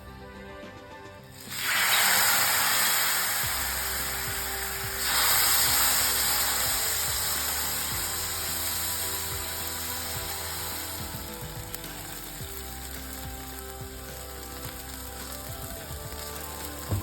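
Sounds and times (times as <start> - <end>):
faint crackles: 1.3 - 17.0
sizzling on a hot griddle: 1.4 - 17.0.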